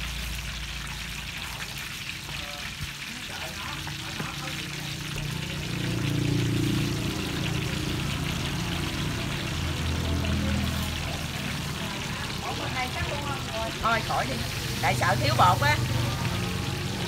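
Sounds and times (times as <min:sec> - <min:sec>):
oil sizzling in a pot: 0:00.0 - 0:17.0.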